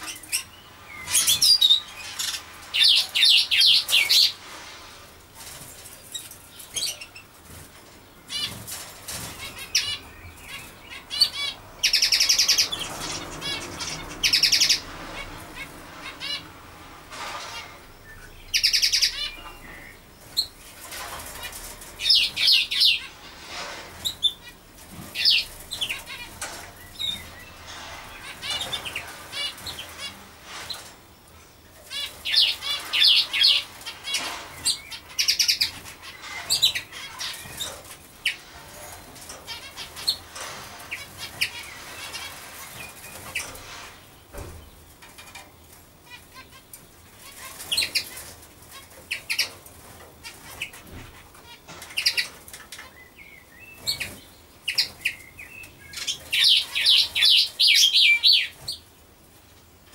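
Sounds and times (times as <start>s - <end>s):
birds chirping and singing: 0.0s - 4.4s, 5.4s - 16.6s, 17.4s - 58.9s.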